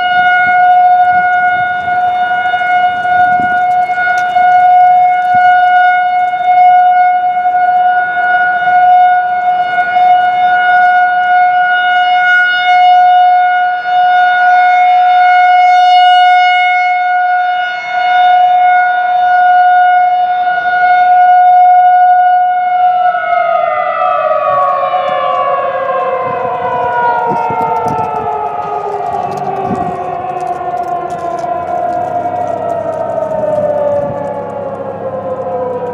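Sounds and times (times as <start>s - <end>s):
rotating siren steady tone: 0.0s - 35.9s.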